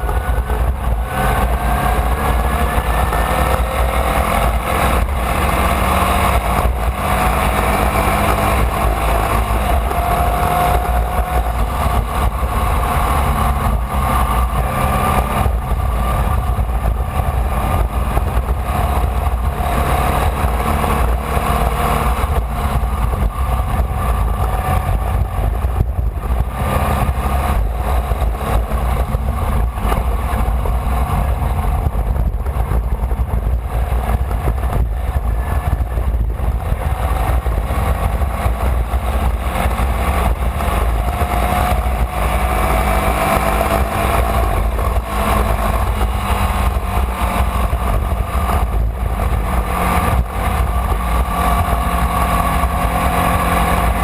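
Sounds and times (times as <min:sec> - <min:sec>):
racing engine running hard: 0:00.0 - 0:54.0.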